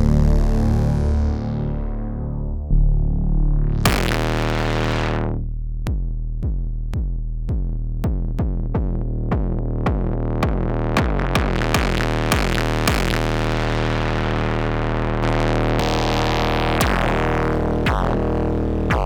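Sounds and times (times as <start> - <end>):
synthesizer bass line: 0.0 - 19.0.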